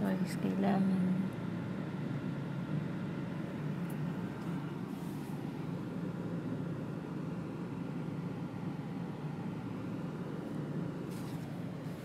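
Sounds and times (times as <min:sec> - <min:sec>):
car cabin hum while driving: 0:00.0 - 0:12.0.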